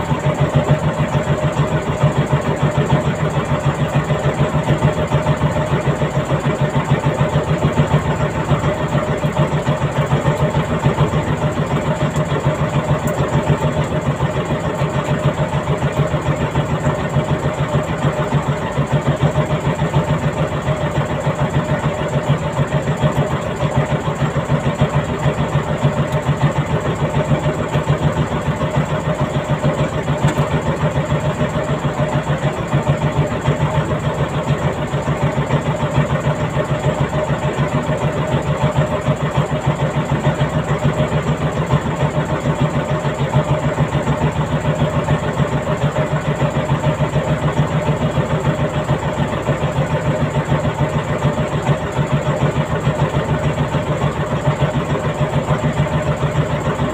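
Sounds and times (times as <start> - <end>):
boat engine pulsing: 0.0 - 56.9.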